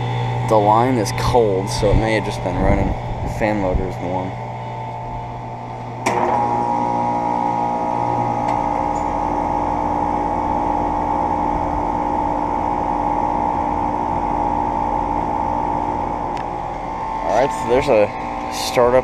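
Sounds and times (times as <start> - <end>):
air conditioner compressor hum: 0.0 - 19.0
condenser fan running: 0.0 - 19.0
lower hum: 0.0 - 19.0.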